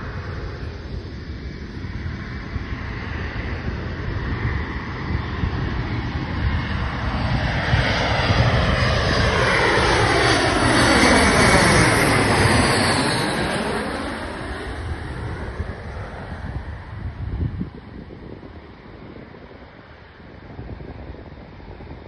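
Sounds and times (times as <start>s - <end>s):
jet passing overhead: 0.0s - 22.0s.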